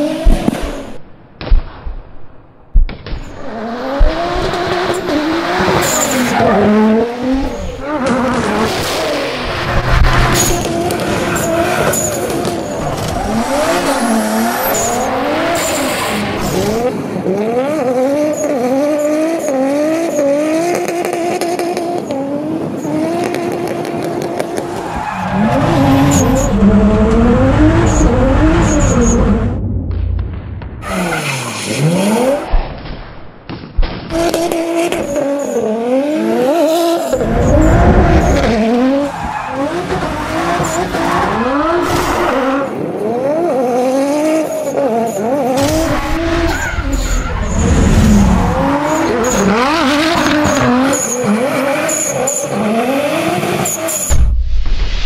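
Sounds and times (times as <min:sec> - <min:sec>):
car engine revving: 0:03.4 - 0:32.5, 0:34.1 - 0:54.1.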